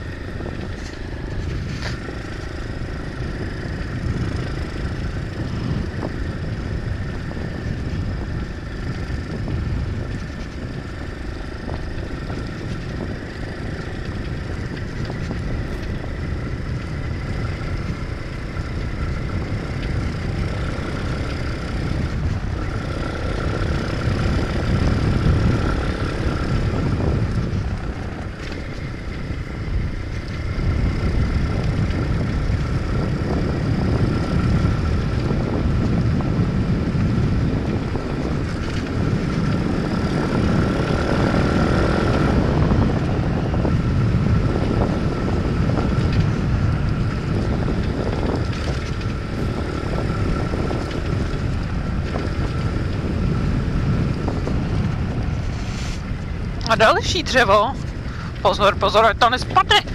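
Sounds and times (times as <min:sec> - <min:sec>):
motorbike engine running: 0:00.0 - 0:59.9
wind rumble on microphone: 0:00.0 - 0:59.9.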